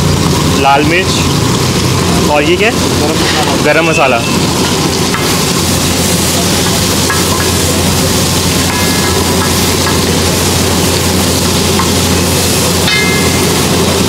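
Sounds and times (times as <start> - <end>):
food sizzling on a flat pan: 0.0 - 14.0.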